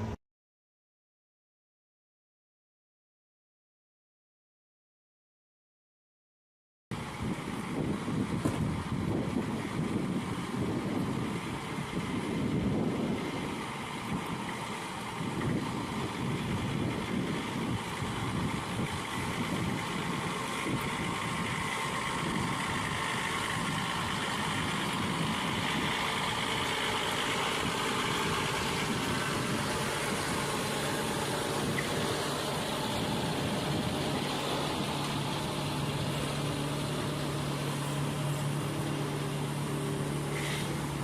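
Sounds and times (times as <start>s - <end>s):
low engine hum: 6.9s - 41.0s
truck engine running: 7.0s - 41.0s.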